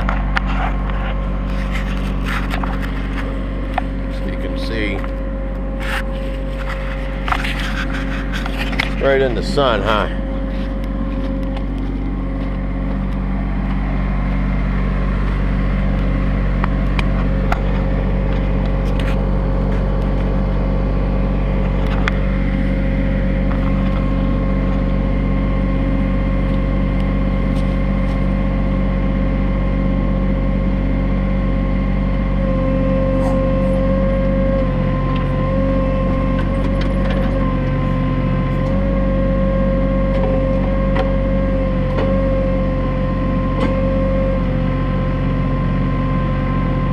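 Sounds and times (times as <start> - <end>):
diesel tractor engine running: 0.0 - 46.9
steady hydraulic whine: 0.0 - 46.9.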